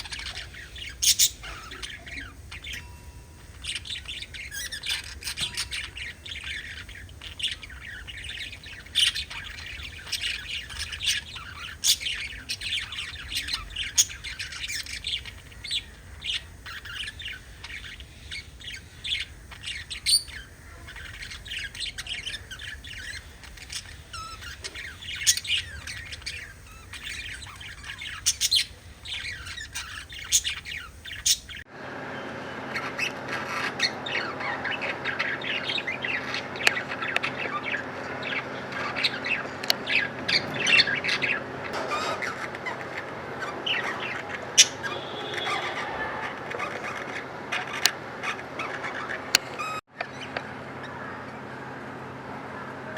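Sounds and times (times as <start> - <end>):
budgerigars chattering: 0.0 - 31.6, 32.7 - 51.8.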